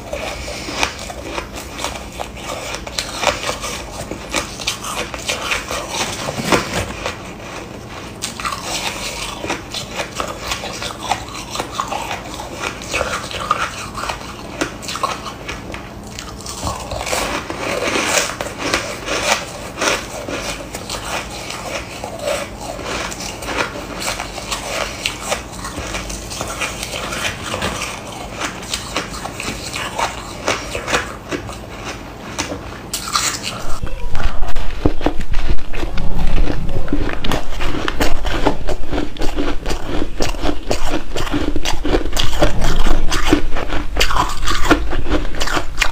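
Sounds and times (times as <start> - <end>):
chewing crunchy ice: 0.0 - 45.9.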